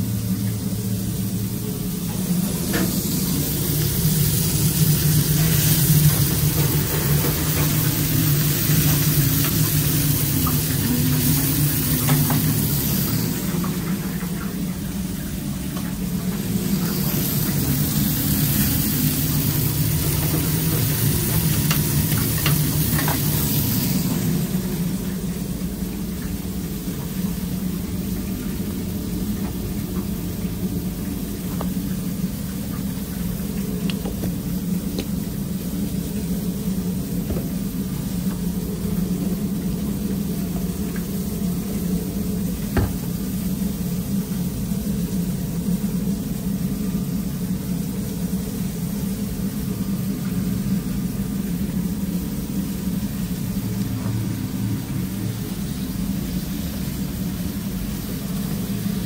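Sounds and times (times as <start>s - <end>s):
kitchen equipment humming: 0.0s - 59.0s.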